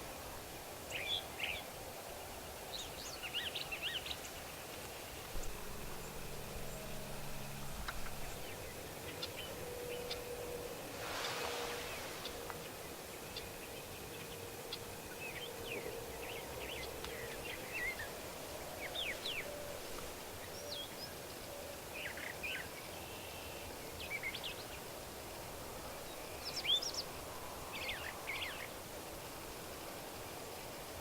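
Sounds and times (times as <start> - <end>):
faint outdoor hiss: 0.0 - 31.0.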